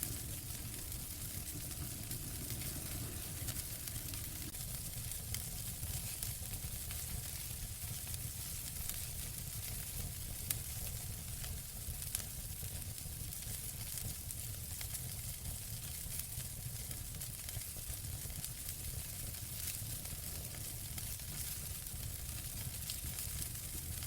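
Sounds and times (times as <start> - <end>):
fire crackling: 0.0 - 24.0
fire rumbling and hissing: 0.0 - 24.0.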